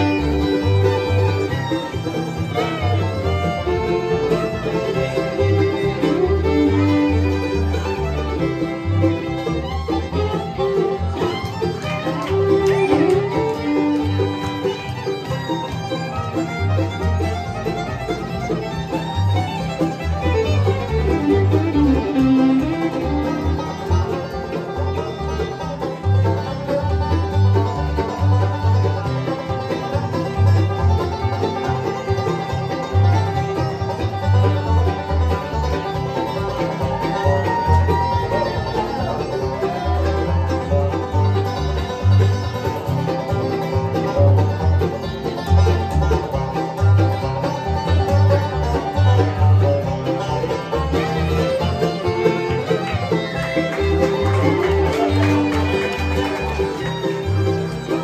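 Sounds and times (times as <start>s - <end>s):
acoustic guitar: 0.0s - 58.0s
banjo: 0.0s - 58.0s
fiddle: 0.0s - 58.0s
mandolin: 0.0s - 58.0s
upright bass: 0.0s - 58.0s.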